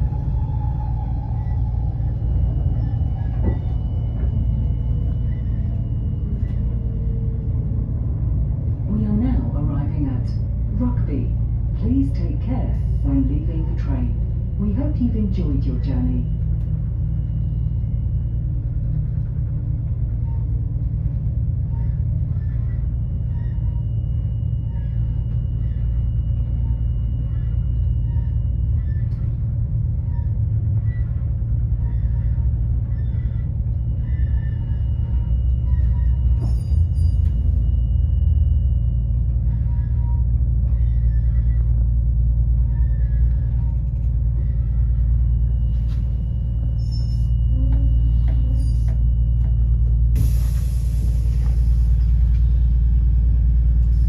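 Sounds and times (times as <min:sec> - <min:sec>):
train low rumble: 0:00.0 - 0:54.0.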